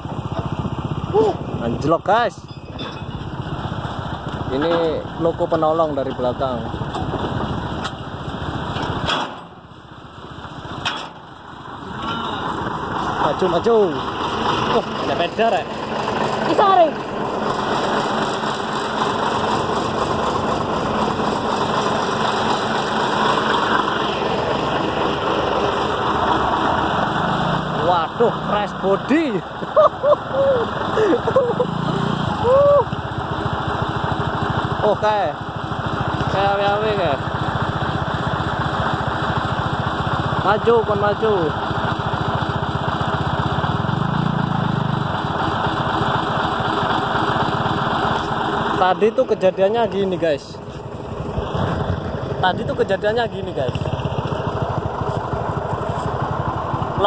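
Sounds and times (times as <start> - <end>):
locomotive diesel engine running: 0.0 - 57.0.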